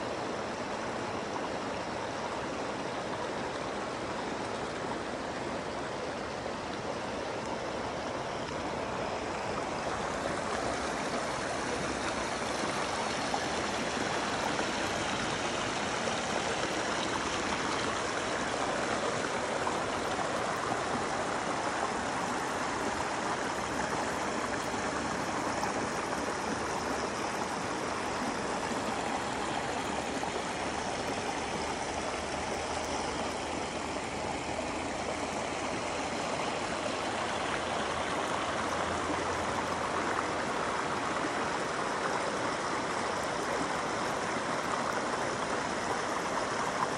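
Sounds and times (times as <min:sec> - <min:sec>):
water rushing over rocks: 0:00.0 - 0:46.9.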